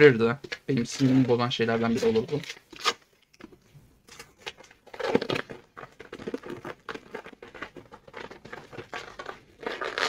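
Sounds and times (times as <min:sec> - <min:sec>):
packaging crinkling and rustling: 0:00.9 - 0:10.0.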